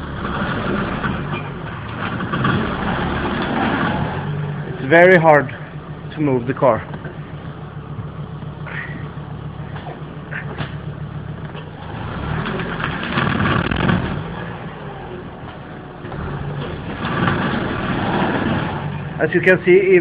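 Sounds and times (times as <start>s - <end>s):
car engine revving under load: 0.0s - 20.0s.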